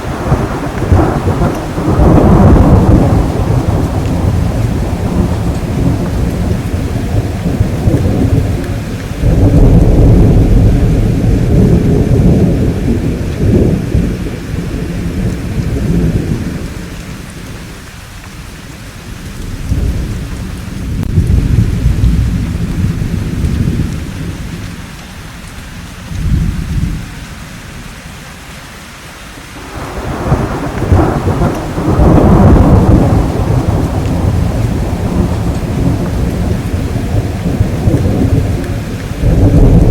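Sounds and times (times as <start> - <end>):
rolling thunder: 0.0 - 24.9, 25.7 - 27.9, 29.6 - 39.9
steady rain: 0.0 - 39.9.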